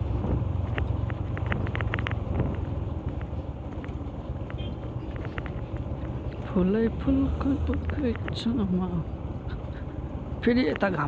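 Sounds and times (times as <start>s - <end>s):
motorcycle riding: 0.0s - 11.0s.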